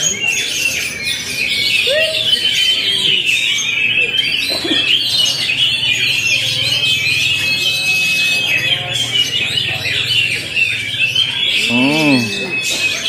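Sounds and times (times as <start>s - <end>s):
birds singing whistled phrases: 0.0s - 13.0s.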